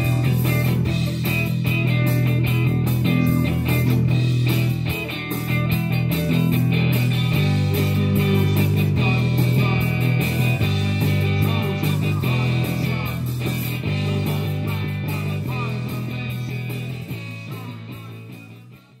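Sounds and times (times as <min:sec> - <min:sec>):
drums: 0:00.0 - 0:19.0
electric guitar: 0:00.0 - 0:19.0.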